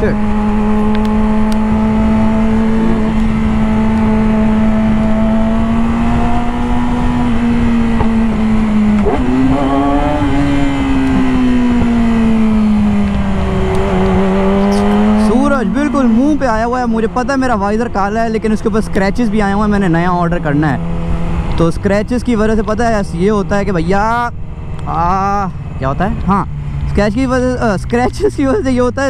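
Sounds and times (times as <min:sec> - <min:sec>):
motorcycle engine running: 0:00.0 - 0:28.4.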